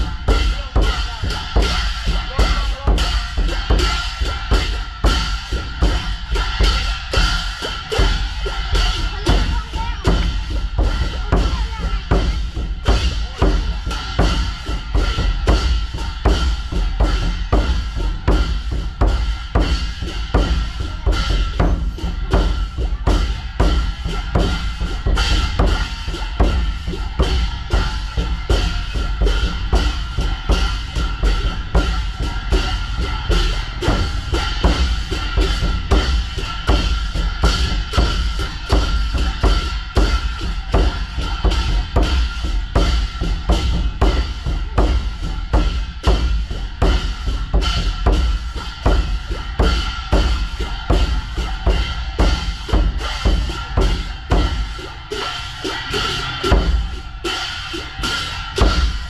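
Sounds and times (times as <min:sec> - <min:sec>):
steady ringing tones: 0:00.0 - 0:59.0
temple drum beaten fast: 0:00.0 - 0:59.0.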